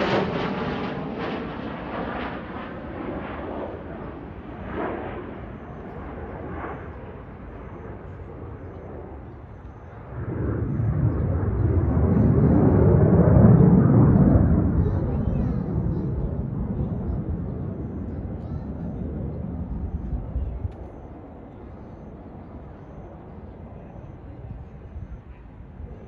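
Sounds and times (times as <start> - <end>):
jet engine roaring past: 0.0 - 26.0.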